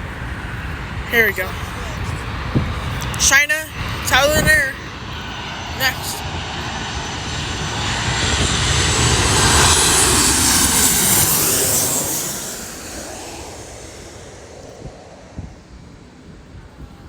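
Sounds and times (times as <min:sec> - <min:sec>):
jet engines roaring past: 0:00.0 - 0:17.0.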